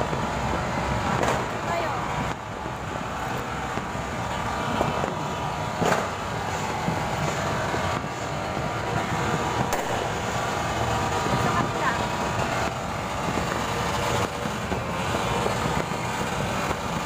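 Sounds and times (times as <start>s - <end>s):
city din: 0.0s - 17.0s
distant fireworks bangs: 0.0s - 17.0s.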